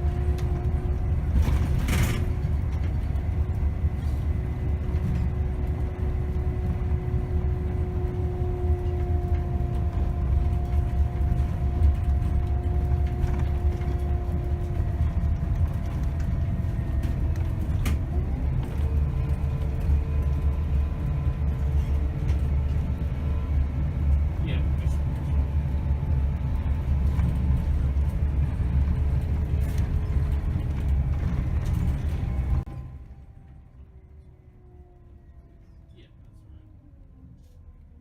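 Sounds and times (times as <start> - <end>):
bus engine and road rumble: 0.0 - 38.0.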